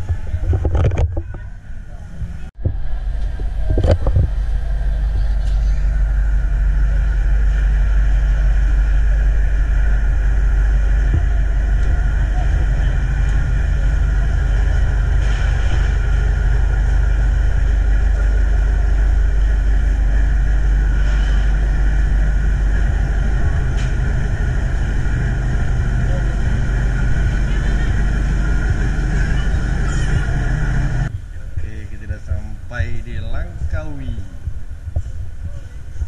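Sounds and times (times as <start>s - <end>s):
ferry engines droning: 0.0s - 33.6s.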